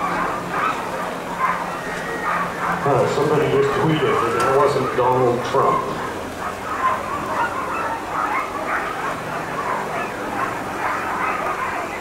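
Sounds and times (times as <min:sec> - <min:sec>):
dogs barking yipping and whining: 0:00.0 - 0:12.0.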